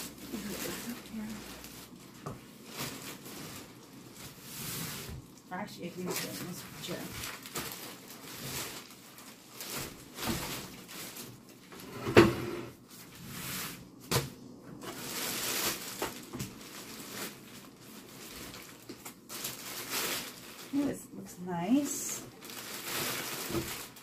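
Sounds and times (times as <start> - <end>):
plastic packaging rustling: 0.0 - 24.0.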